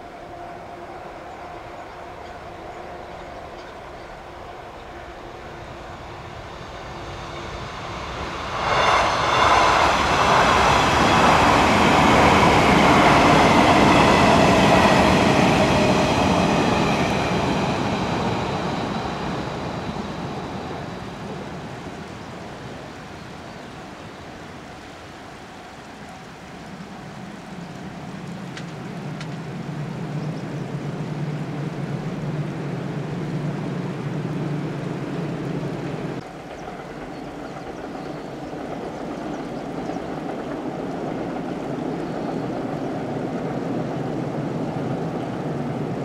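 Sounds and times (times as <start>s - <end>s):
electric train passing: 0.0s - 24.4s, 25.0s - 46.0s
high whine of train: 0.0s - 46.0s.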